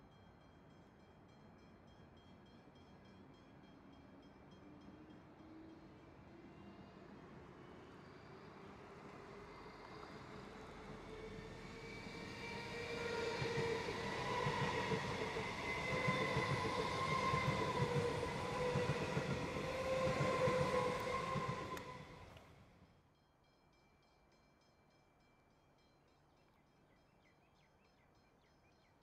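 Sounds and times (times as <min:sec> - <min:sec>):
electric train passing: 0:00.2 - 0:24.4.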